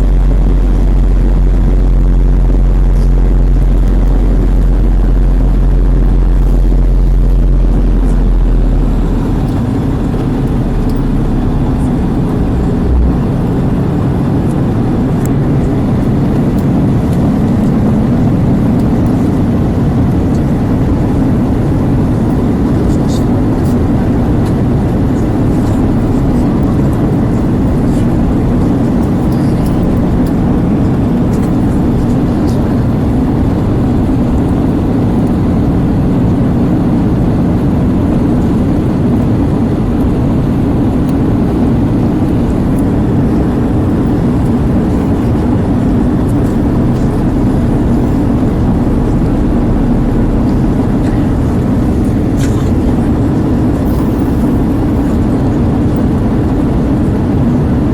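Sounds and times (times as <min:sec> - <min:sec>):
airliner cabin engine and airflow noise: 0:00.0 - 0:57.9.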